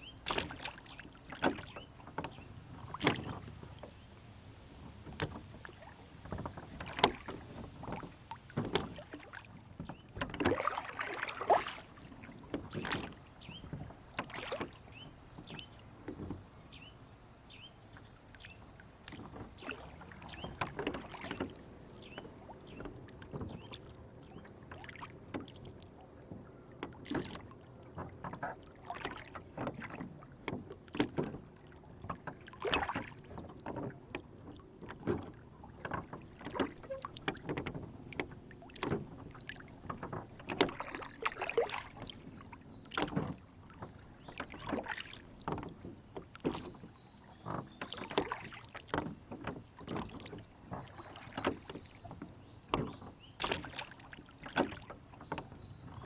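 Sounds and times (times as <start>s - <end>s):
small knocks on a boat: 0.0s - 56.0s
water lapping against a rowboat: 0.0s - 56.0s.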